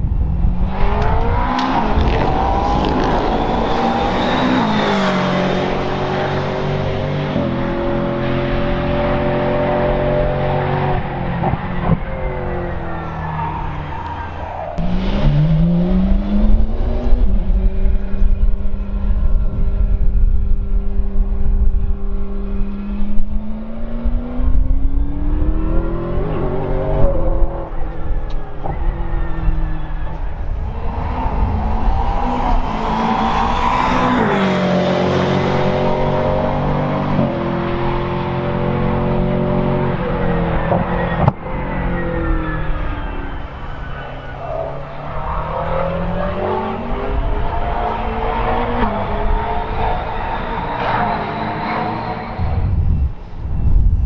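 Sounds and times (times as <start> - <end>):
race car accelerating past: 0.5 - 19.8, 22.1 - 54.0.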